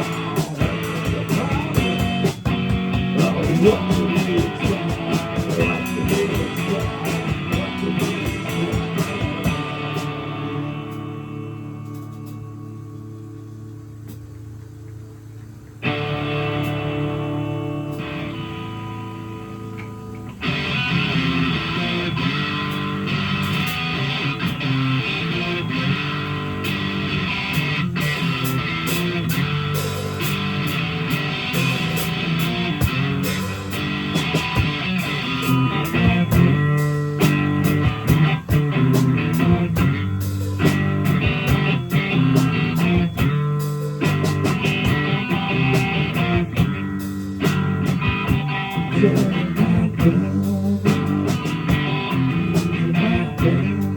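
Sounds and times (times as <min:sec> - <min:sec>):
guitar strumming: 0:00.0 - 0:53.9
rock band playing: 0:00.0 - 0:53.9.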